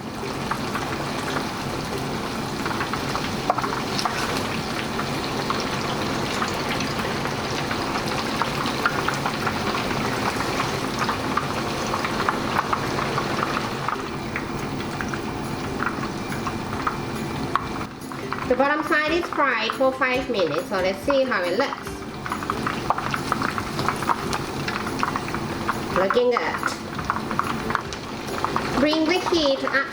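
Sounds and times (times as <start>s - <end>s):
tofu deep-frying in oil: 0.0s - 29.9s.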